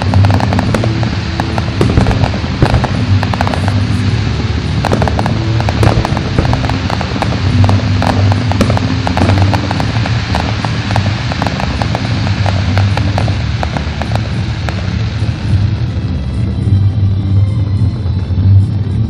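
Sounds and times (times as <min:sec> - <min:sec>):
fireworks crackling: 0:00.0 - 0:19.0
low rumble: 0:00.0 - 0:19.0.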